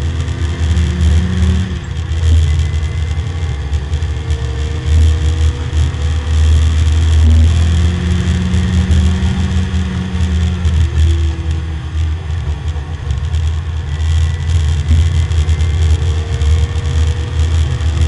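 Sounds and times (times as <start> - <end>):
car engine accelerating hard: 0.0 - 18.0
wind and road noise: 0.0 - 18.0.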